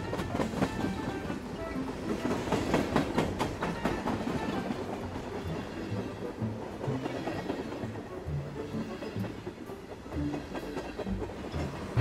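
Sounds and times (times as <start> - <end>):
train rumbling: 0.0 - 12.0
train wheels clicking on track: 0.0 - 12.0.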